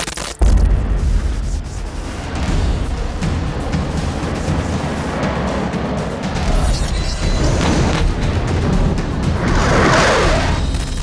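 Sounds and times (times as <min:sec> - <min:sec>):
cinematic music with booming hits: 0:00.4 - 0:11.0.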